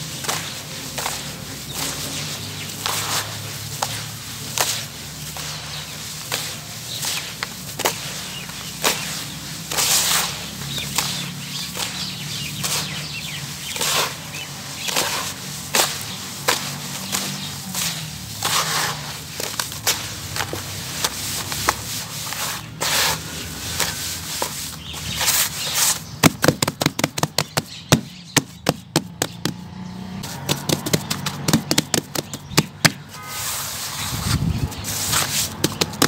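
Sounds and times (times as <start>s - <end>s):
gritty crunching of damp sand: 0.0s - 36.0s.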